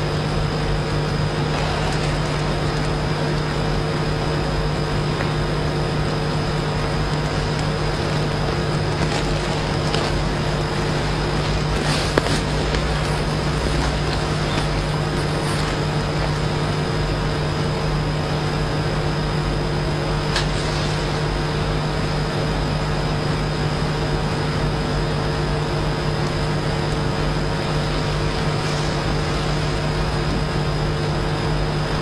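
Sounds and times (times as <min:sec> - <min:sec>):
background hum and hiss: 0:00.0 - 0:32.0
low drone: 0:00.0 - 0:32.0.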